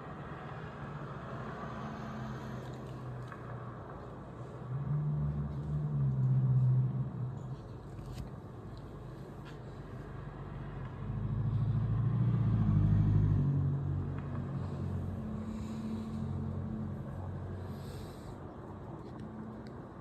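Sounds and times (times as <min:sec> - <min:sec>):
vehicles passing on street: 0:00.0 - 0:20.0.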